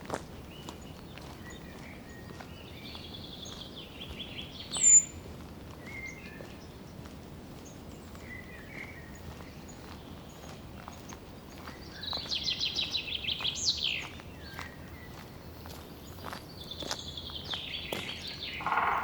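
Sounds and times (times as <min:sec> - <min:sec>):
forest birds chirping and trilling: 0:00.3 - 0:07.0, 0:07.6 - 0:19.0.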